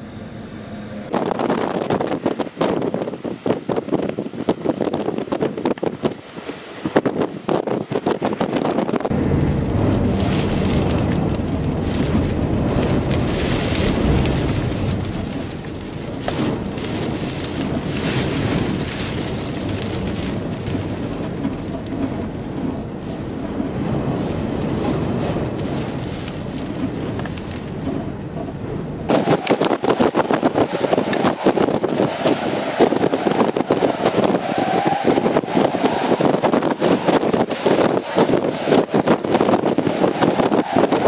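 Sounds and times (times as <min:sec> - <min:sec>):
wind buffeting microphone: 0:01.1 - 0:41.0.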